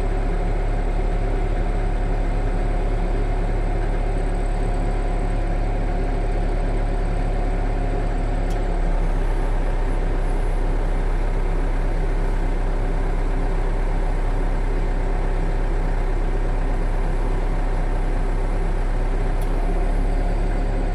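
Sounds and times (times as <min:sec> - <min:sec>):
heavy engine humming: 0:00.0 - 0:20.9.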